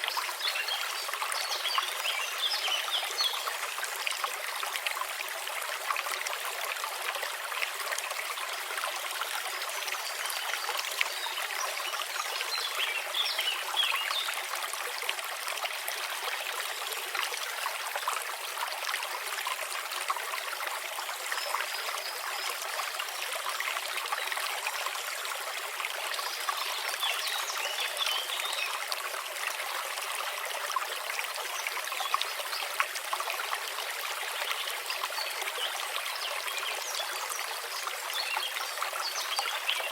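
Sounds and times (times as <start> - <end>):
brook water trickling and splashing: 0.0 - 39.9.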